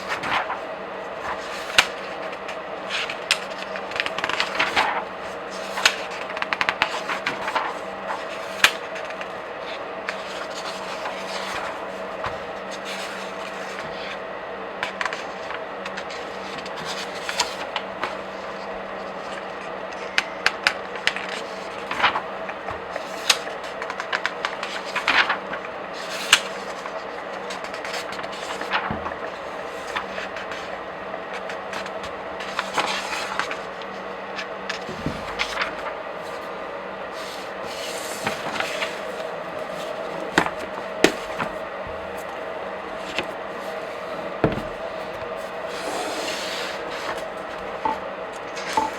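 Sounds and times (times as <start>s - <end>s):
paper pages rustling: 0.0s - 48.9s.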